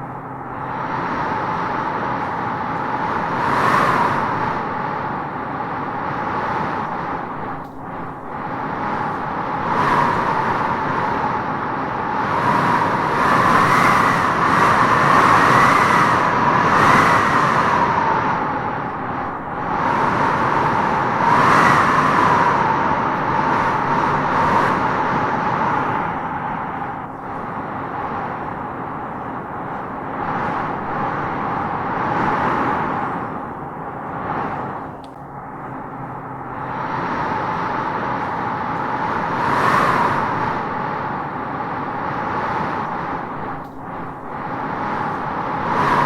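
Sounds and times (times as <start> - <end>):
wind howling through trees: 0.0 - 46.0.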